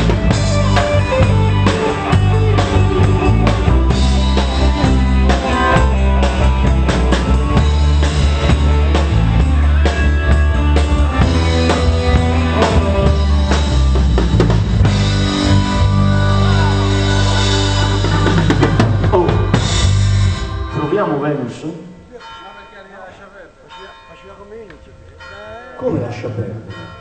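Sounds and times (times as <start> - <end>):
drum kit: 0.0 - 21.6
live pop band playing: 0.0 - 22.5.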